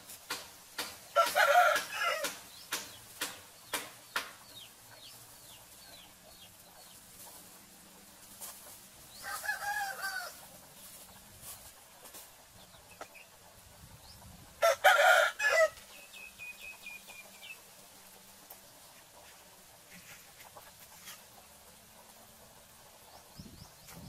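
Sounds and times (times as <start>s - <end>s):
chickens calling: 0.3s - 24.0s.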